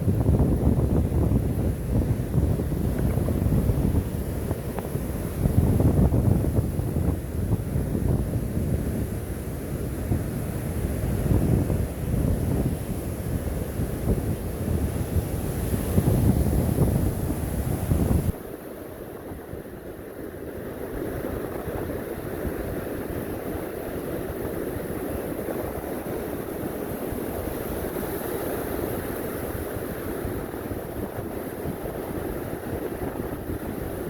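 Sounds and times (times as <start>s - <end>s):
ocean surf washing onto beach: 0.0s - 34.0s.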